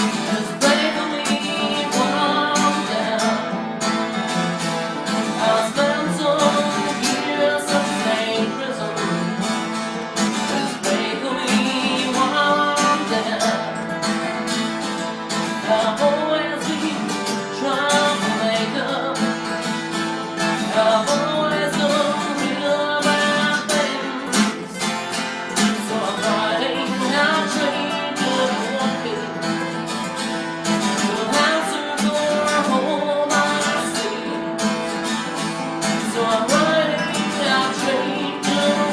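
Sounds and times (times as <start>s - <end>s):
person singing: 0.0s - 4.2s, 5.0s - 30.0s, 30.8s - 38.9s
strummed acoustic guitar: 0.0s - 38.9s.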